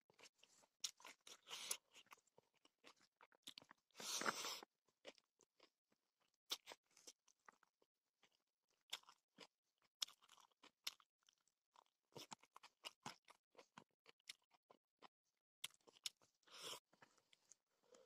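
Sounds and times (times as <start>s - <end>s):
person chewing crunchy food: 0.1s - 18.0s.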